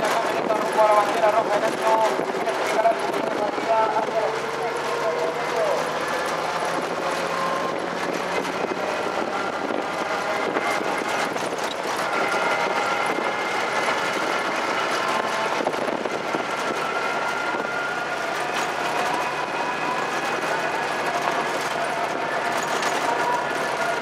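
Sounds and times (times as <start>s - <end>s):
vehicle engine and tyre noise: 0.0s - 24.0s.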